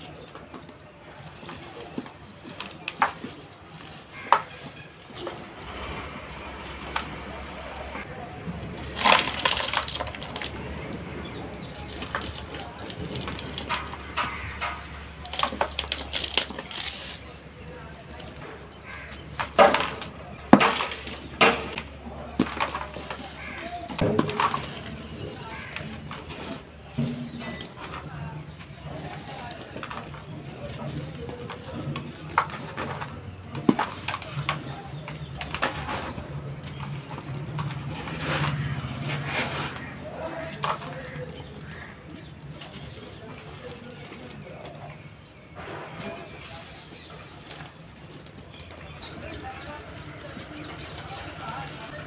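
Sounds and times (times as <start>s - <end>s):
concrete crunching in hands: 0.0s - 52.0s.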